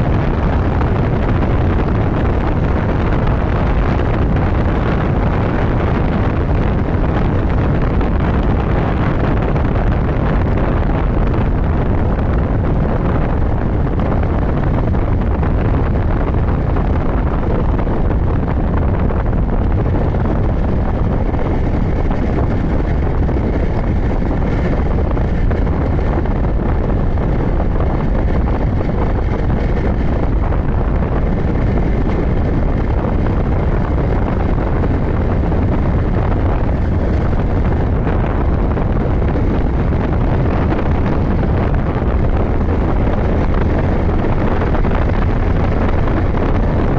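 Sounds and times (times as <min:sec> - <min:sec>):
motorcycle engine and road noise: 0:00.0 - 0:46.9
wind buffeting microphone: 0:00.0 - 0:46.9.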